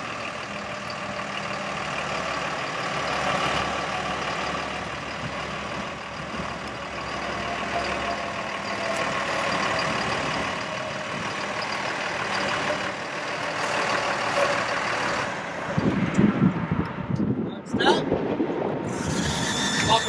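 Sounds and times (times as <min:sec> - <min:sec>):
diesel truck engine running: 0:00.0 - 0:17.4.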